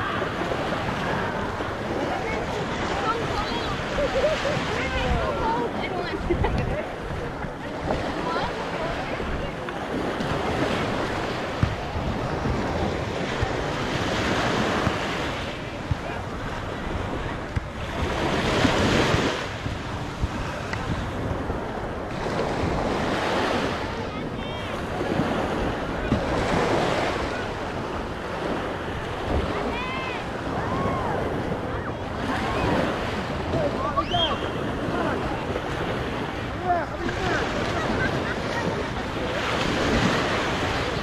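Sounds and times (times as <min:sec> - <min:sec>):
small waves breaking on beach: 0:00.0 - 0:41.0
wind rumbling on microphone: 0:00.0 - 0:41.0.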